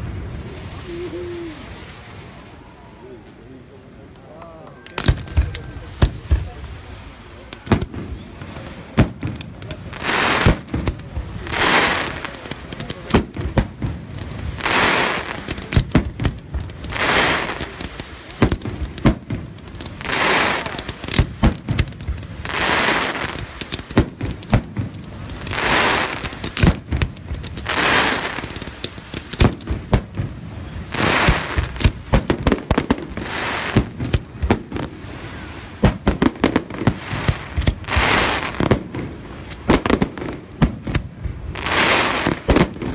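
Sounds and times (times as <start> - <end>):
fireworks bangs and crackles: 0.0 - 2.7, 4.4 - 42.9
fireworks whooshing hiss: 0.0 - 2.7, 5.0 - 42.9.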